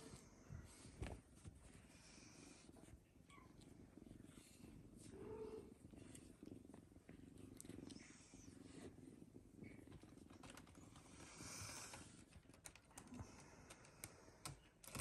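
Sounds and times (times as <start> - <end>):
kittens purring: 0.0 - 15.0.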